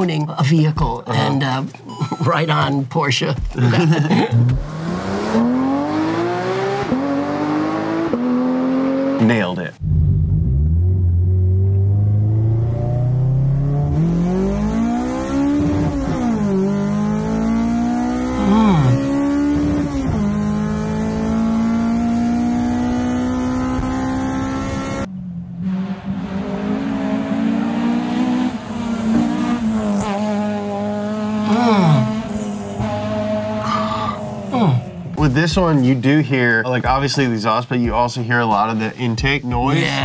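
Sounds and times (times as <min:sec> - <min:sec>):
car engine revving: 0:03.4 - 0:37.4.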